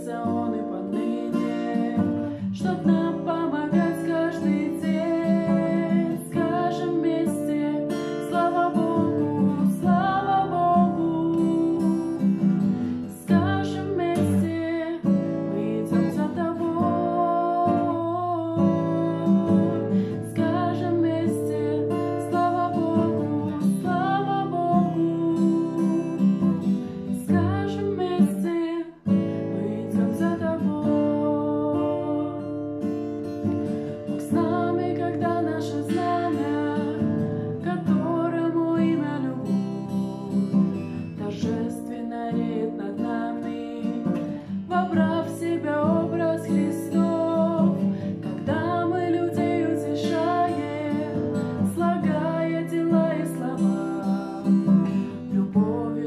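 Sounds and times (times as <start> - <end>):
acoustic guitar strumming: 0.0 - 28.5, 29.1 - 56.0
woman singing: 0.0 - 56.0.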